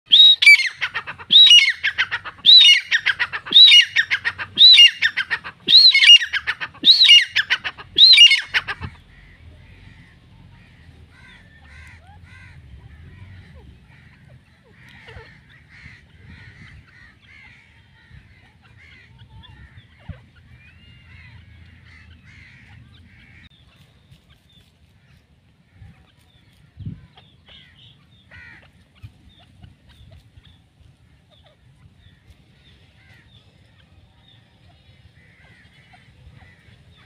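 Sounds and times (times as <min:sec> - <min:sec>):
birds chirping calls: 0:00.1 - 0:37.0.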